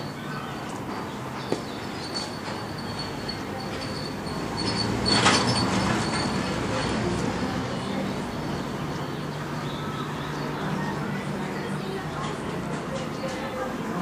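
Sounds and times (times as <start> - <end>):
street low hum: 0.0 - 14.0.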